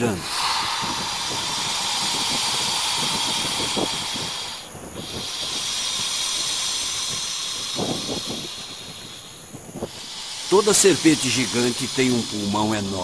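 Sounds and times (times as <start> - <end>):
snake breathing with hiss: 0.0 - 13.0.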